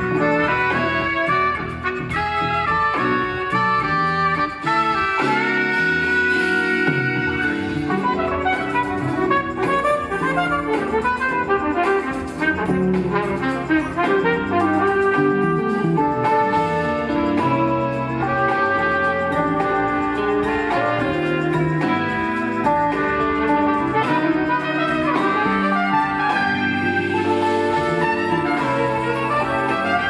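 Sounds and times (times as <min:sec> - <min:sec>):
horn section playing: 0:00.0 - 0:30.0
jazz fusion band playing live: 0:00.0 - 0:30.0.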